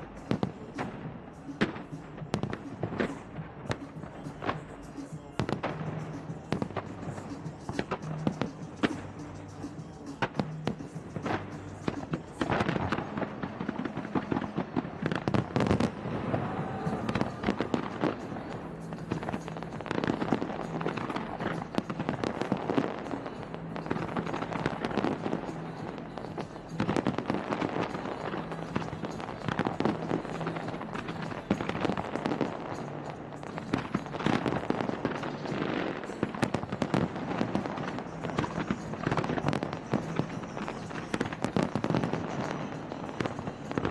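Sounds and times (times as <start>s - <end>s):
fireworks bangs and crackles: 0.0s - 43.9s
music with low notes: 0.0s - 43.9s.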